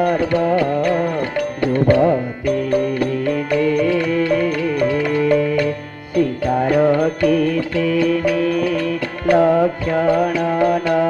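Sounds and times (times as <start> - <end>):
sharp percussion strokes: 0.0 - 11.0
held pitch-bending melody: 0.7 - 11.0.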